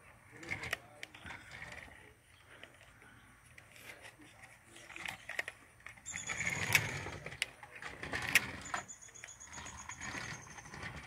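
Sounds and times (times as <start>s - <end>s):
wheels rumbling over wooden boards: 0.0s - 11.0s
toy car electric motor whining: 0.4s - 2.9s, 3.6s - 11.0s.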